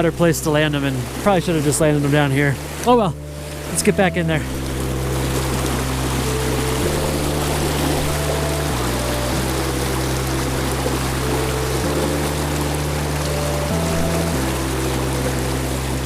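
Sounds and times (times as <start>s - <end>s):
background music with bass chords: 0.0s - 16.0s
river rushing: 0.0s - 16.0s.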